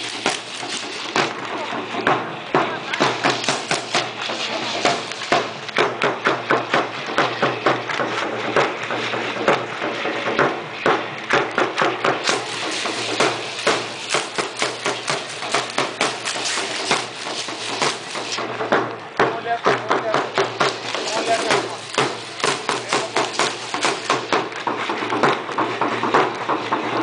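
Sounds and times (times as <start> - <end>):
fast wooden percussion strikes: 0.0 - 27.0.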